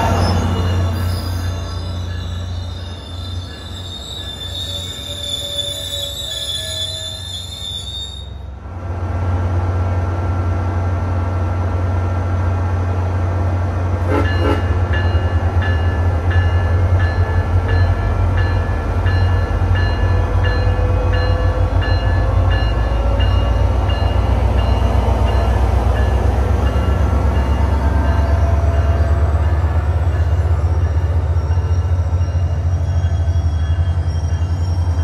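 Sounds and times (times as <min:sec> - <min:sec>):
train diesel engine running: 0:00.0 - 0:35.0.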